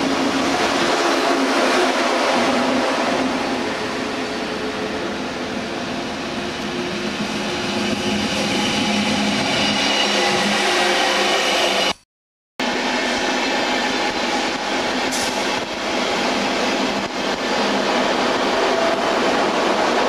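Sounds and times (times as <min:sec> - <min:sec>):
train rumble and whine: 0:00.0 - 0:12.0, 0:12.6 - 0:20.0.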